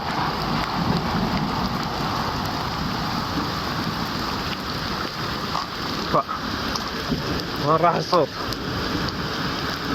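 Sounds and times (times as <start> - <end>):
distant thunder rumbling: 0.0 - 9.9
steady rain: 0.0 - 9.9.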